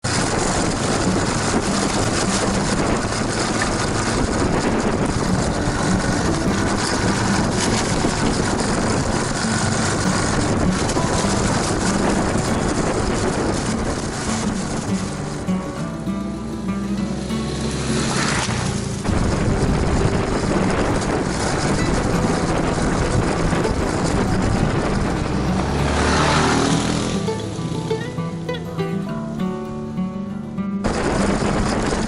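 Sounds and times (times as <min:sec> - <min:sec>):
motorcycle engine running: 0:00.0 - 0:28.1, 0:30.9 - 0:32.0
loud rushing noise: 0:00.0 - 0:28.6, 0:30.8 - 0:32.0.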